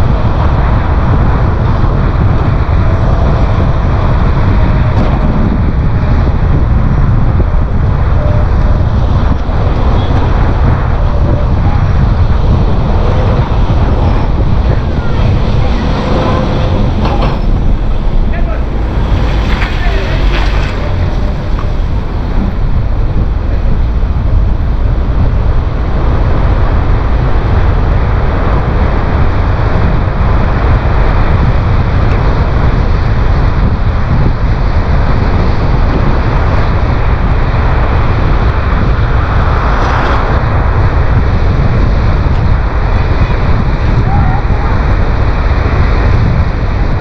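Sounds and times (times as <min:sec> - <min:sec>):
car wind and road noise: 0:00.0 - 0:47.0.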